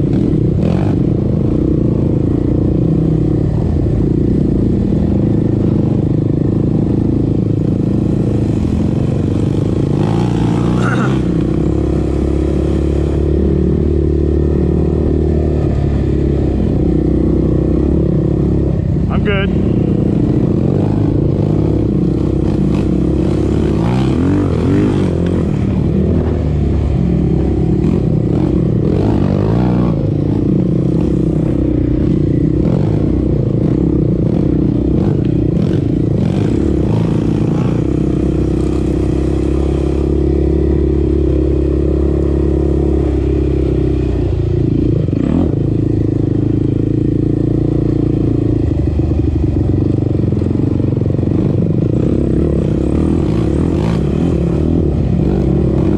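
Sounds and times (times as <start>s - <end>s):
quad engine running: 0.0s - 55.9s.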